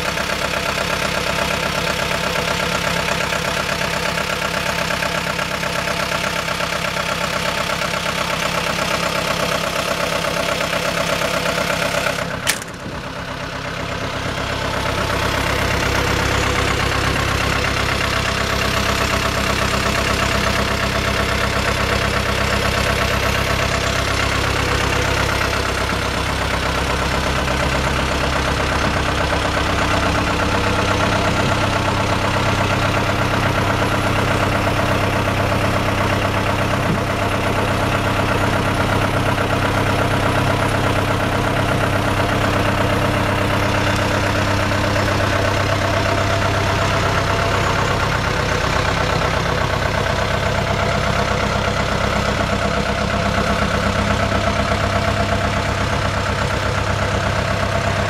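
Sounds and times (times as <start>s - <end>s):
excavator diesel engine idling: 0.0s - 58.0s.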